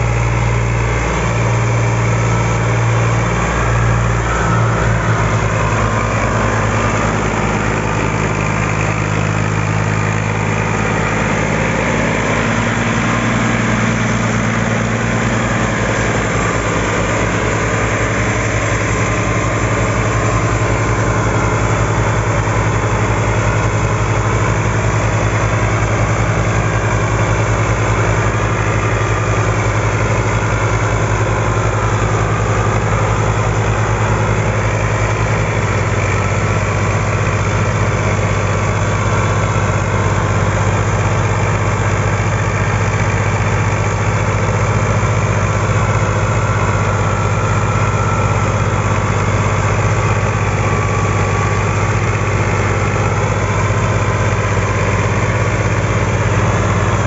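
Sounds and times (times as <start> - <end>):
diesel tractor engines throbbing: 0.0 - 57.0.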